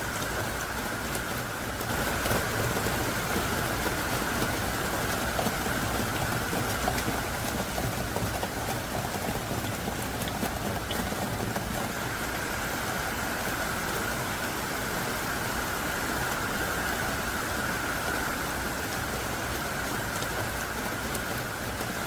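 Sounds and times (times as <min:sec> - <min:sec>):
raindrops ticking: 0:00.0 - 0:14.4, 0:15.2 - 0:22.0
heavy rain pouring: 0:00.0 - 0:22.0.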